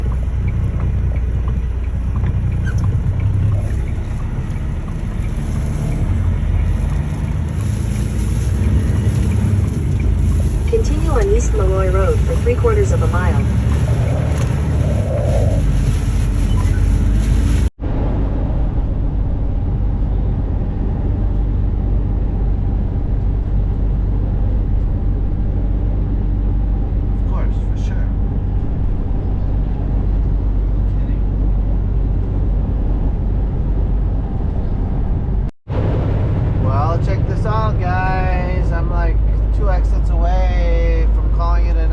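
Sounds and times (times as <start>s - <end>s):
road noise: 0.0s - 41.9s
truck engine drone: 0.0s - 41.9s.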